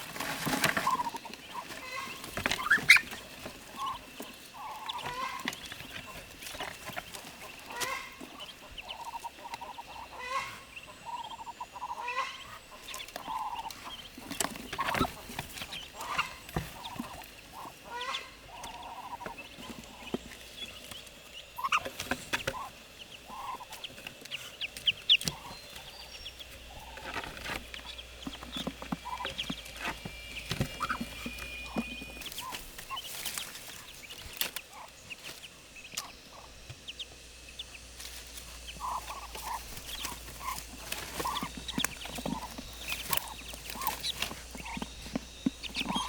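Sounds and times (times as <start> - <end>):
poultry clucking: 0.0 - 46.0.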